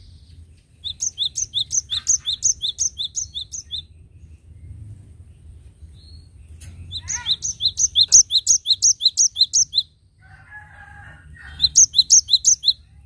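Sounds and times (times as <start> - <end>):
soft low bird chatter: 0.0 - 13.0.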